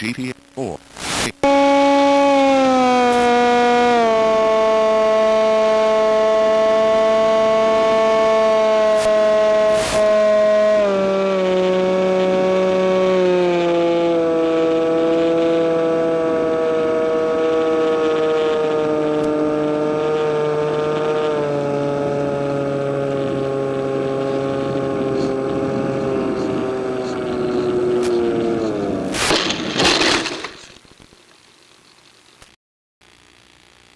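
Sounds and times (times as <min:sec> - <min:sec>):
electric motor and propeller whining: 0:00.0 - 0:30.6.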